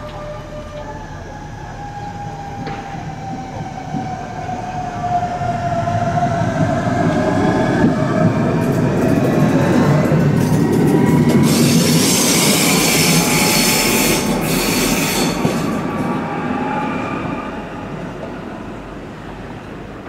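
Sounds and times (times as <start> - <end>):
electric train drive whine: 0.0 - 18.9
train running noise: 0.0 - 20.0.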